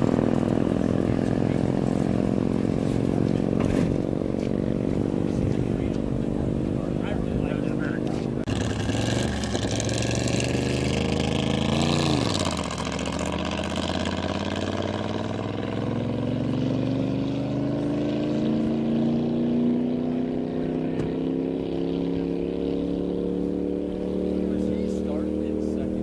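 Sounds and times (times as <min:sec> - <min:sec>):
racing engine revving: 0:00.0 - 0:26.0.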